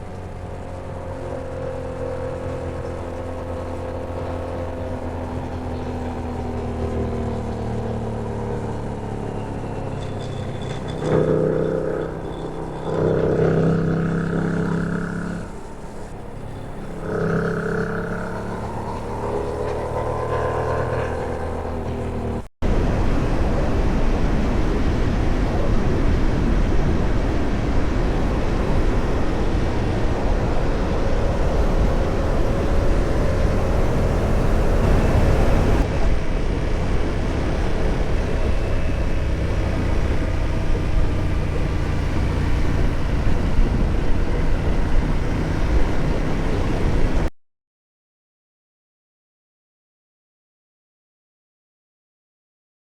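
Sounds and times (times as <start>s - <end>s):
motorcycle engine running: 0.0s - 47.3s
wind and road noise: 0.0s - 47.3s.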